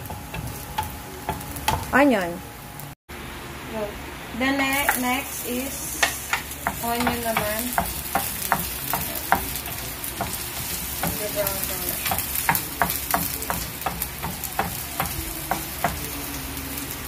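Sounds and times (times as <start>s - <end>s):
onion sizzling in a frying pan: 0.0s - 17.0s.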